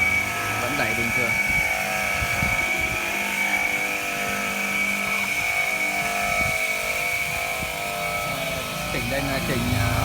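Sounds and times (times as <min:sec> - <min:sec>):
tile saw cutting tile: 0:00.0 - 0:10.0.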